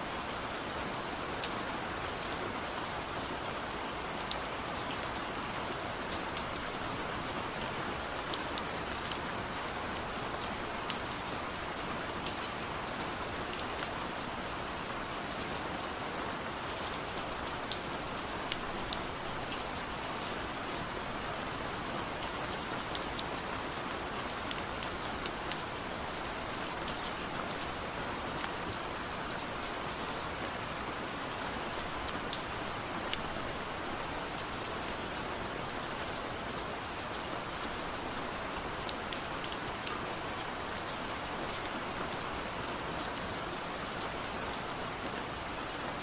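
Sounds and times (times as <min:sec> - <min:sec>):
rain falling on a surface: 0:00.0 - 0:46.0.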